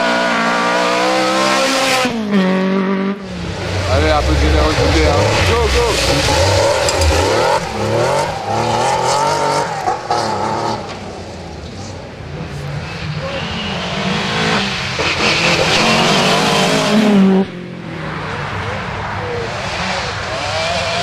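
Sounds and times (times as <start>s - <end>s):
rally car engine at full throttle: 0.0s - 21.0s.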